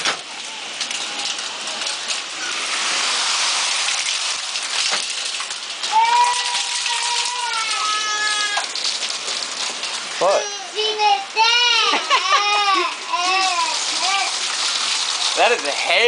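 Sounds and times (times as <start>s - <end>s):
heavy rain and hail pelting: 0.0s - 16.0s.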